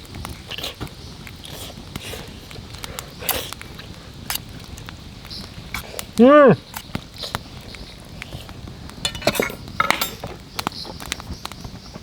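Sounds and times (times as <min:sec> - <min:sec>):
campfire crackling and popping: 0:00.0 - 0:12.0
fire low hiss: 0:00.0 - 0:12.0.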